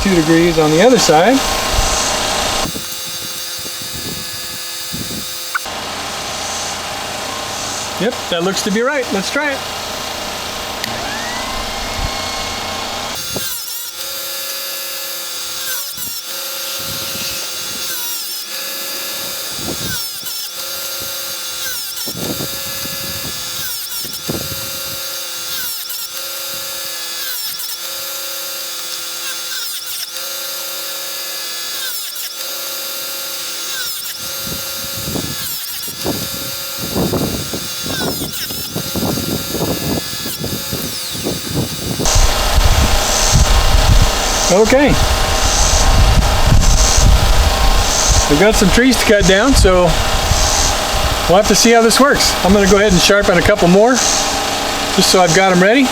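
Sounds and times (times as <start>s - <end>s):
saw chain sharpener grinding: 0.0s - 55.9s.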